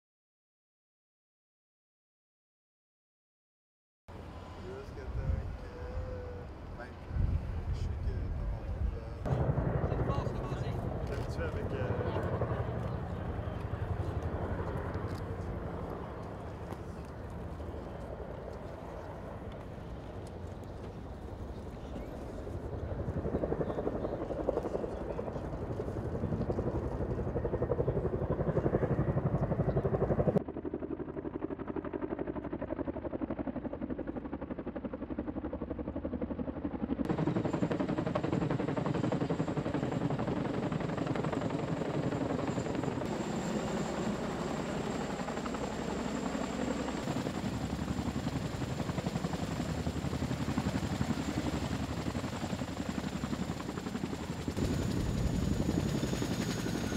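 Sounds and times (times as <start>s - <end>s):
helicopter rotor chop: 4.7s - 56.9s.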